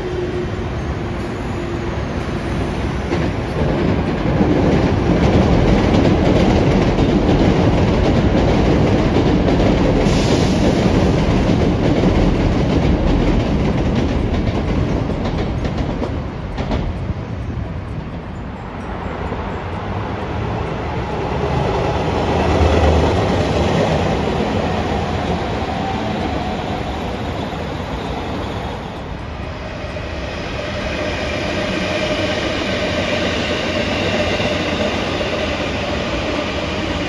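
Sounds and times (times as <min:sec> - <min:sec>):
train running past: 0:00.0 - 0:37.0.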